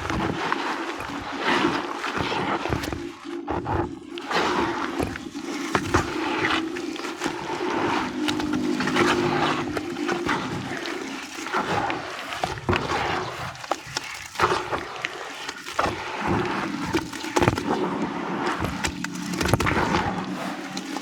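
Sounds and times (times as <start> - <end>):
wet sand and cement squishing: 0.0 - 21.0.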